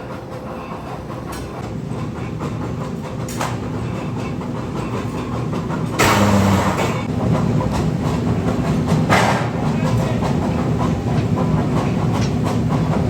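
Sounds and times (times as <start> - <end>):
heavy factory machinery rattling: 0.0 - 13.0.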